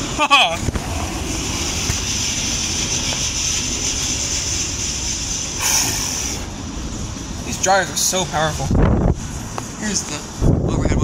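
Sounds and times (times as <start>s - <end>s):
car wash air dryers roaring: 0.0s - 11.0s.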